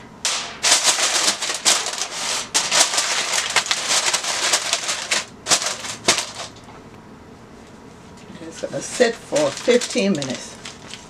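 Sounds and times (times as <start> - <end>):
aluminium foil crinkling: 0.3 - 6.7, 8.6 - 11.0.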